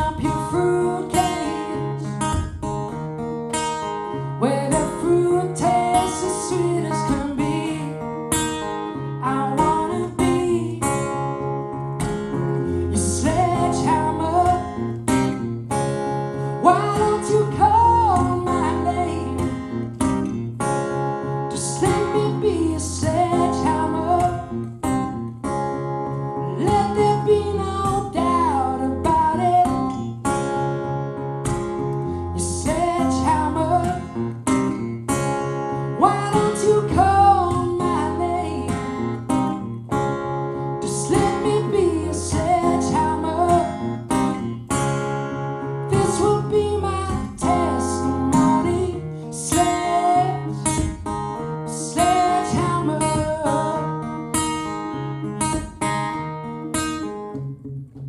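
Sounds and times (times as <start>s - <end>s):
acoustic guitar strummed: 0.0s - 58.0s.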